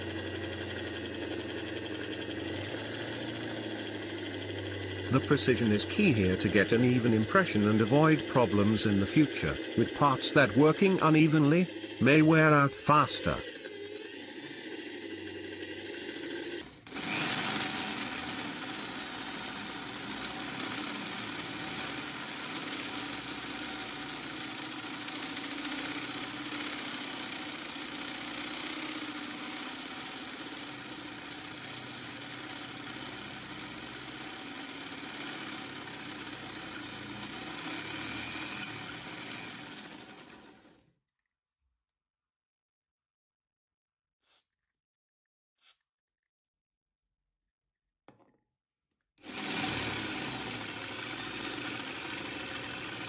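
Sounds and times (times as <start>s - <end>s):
electric drill boring into steel: 0.0s - 40.8s, 49.2s - 53.0s.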